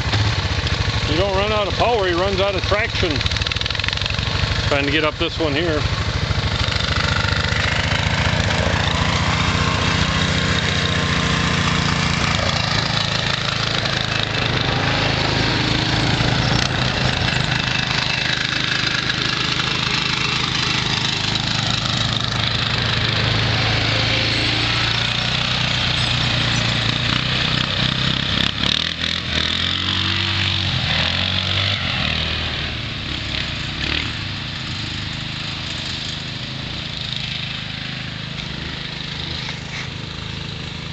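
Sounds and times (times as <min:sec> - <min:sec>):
lawn tractor engine running: 0:00.0 - 0:40.9.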